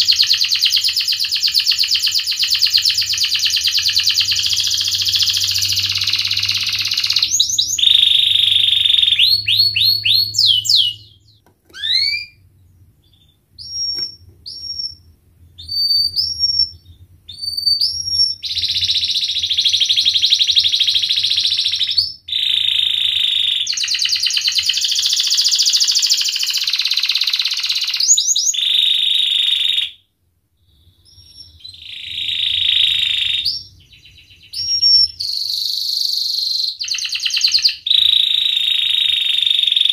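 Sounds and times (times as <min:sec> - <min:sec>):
canary singing trills: 0:00.0 - 0:29.9, 0:30.6 - 0:39.9.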